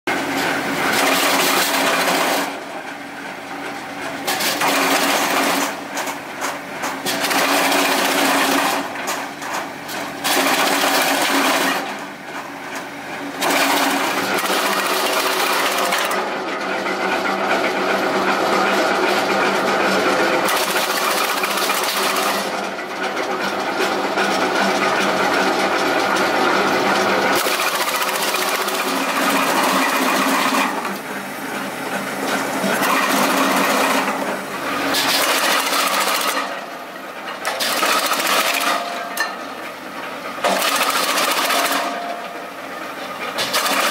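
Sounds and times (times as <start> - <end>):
machine running steadily: 0.1 - 43.9.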